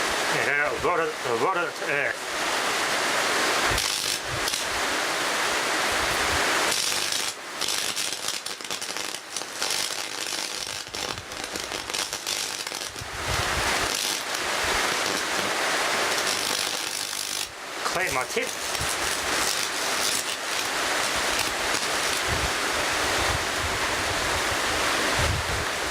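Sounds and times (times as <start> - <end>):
electrical arc crackling and hissing: 0.0 - 25.9.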